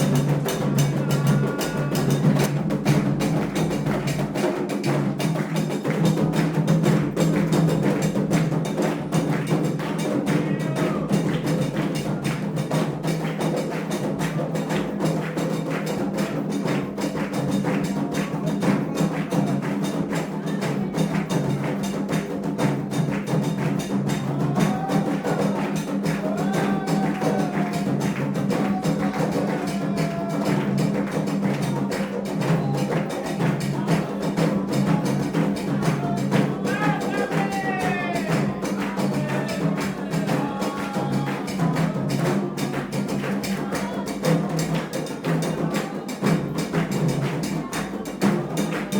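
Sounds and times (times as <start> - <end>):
voices singing: 0.0 - 5.1, 7.2 - 13.3, 14.9 - 48.9
fast hand drum rhythm: 0.0 - 48.9.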